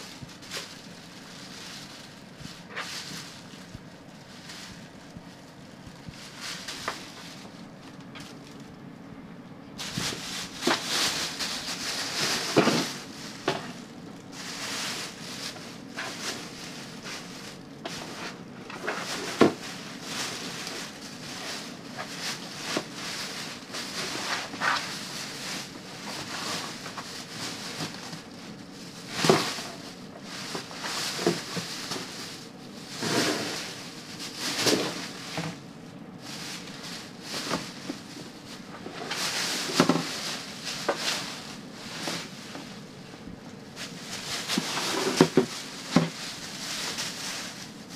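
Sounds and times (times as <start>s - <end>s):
plastic bag rustling and crinkling: 0.0s - 9.0s, 9.6s - 47.9s.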